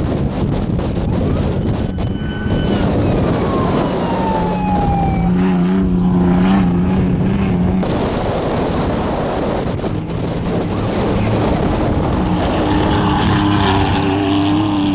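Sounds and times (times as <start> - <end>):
race truck engine revving: 0.1 - 14.9.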